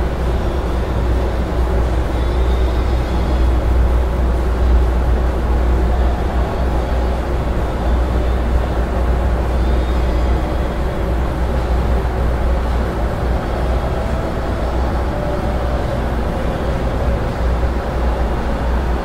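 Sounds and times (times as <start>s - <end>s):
low rumble of arena noise: 0.0s - 19.0s.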